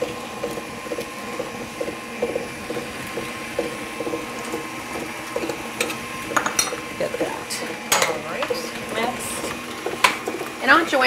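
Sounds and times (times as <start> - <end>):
beaters churning batter: 0.0 - 11.0
electric mixer whining: 0.0 - 11.0.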